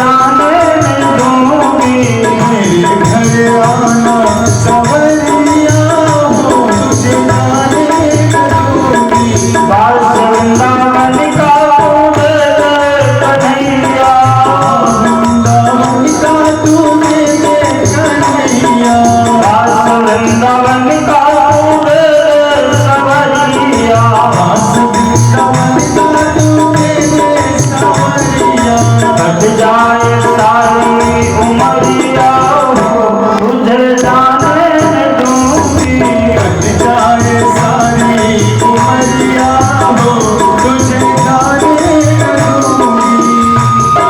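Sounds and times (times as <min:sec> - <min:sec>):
rattling hand percussion: 0:00.0 - 0:44.0
steady drum beat: 0:00.0 - 0:44.0.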